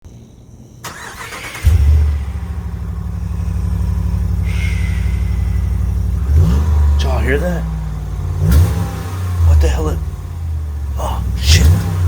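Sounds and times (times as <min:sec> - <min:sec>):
engine cranking: 0:00.8 - 0:12.0
engine idling loudly: 0:01.0 - 0:12.0.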